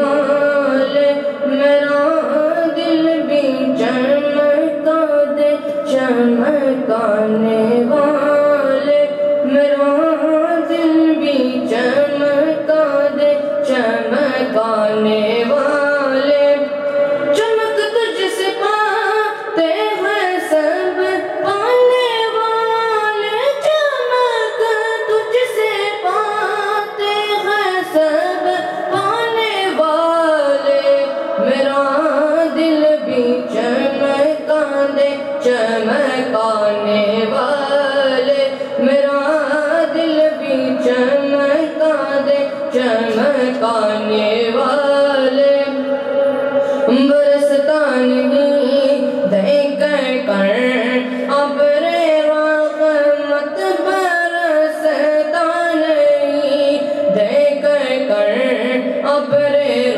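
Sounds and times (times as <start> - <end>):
boy singing devotional song: 0.0 - 59.9.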